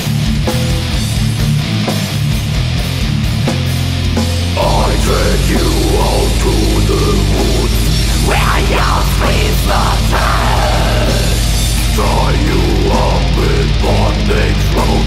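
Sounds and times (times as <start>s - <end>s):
distorted electric guitars: 0.0s - 15.0s
fast drumming: 0.0s - 15.0s.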